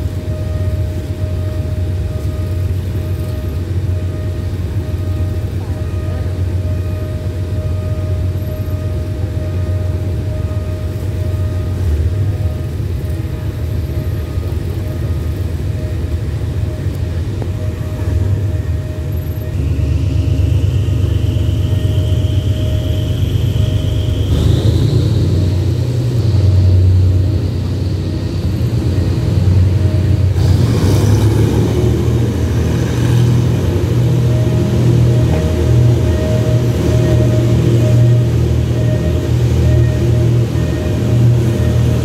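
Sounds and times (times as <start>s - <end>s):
diesel train engine rumble: 0.0s - 42.0s
thin high whine: 0.0s - 42.0s.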